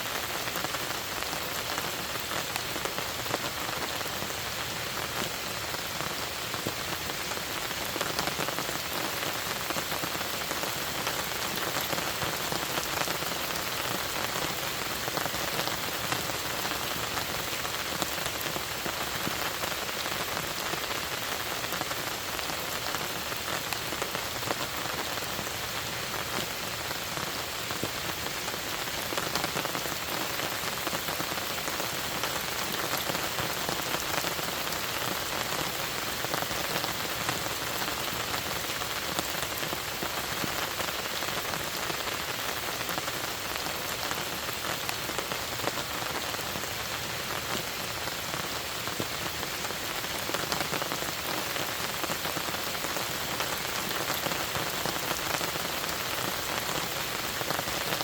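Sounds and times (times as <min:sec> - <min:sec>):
rain falling on a lake: 0:00.0 - 0:58.0.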